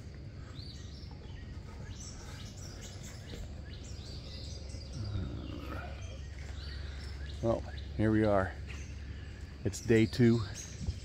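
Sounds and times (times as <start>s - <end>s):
birds chirping and singing: 0.0s - 11.0s
low outdoor rumble: 0.0s - 11.0s.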